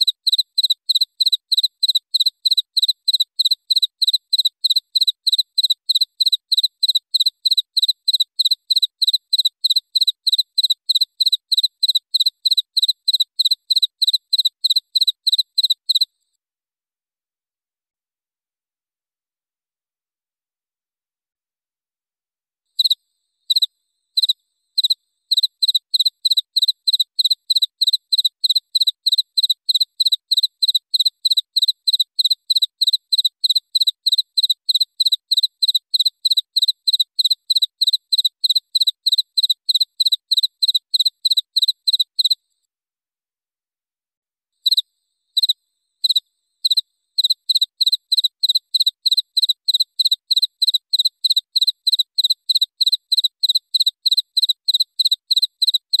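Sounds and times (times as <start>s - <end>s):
cricket chirping: 0.0s - 16.1s, 22.8s - 42.4s, 44.6s - 56.0s.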